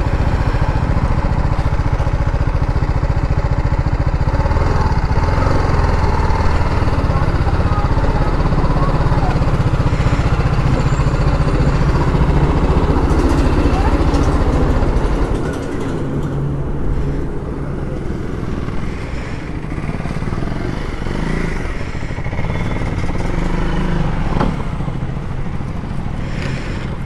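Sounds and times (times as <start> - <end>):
motorcycle engine idling: 0.0 - 27.0
motorcycles rolling at low speed: 0.0 - 27.0.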